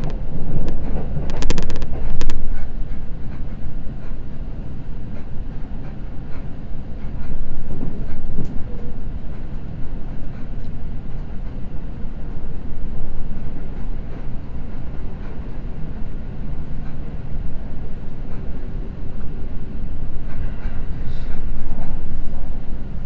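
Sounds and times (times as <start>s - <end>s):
rail clicks: 0.0s - 23.0s
train wheels rumbling on rails: 0.0s - 23.0s.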